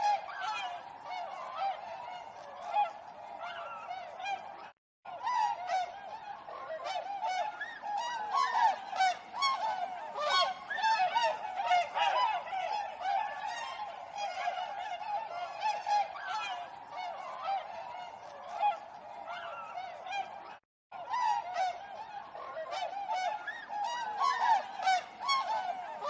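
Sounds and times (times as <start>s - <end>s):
swans calling: 0.0s - 26.0s.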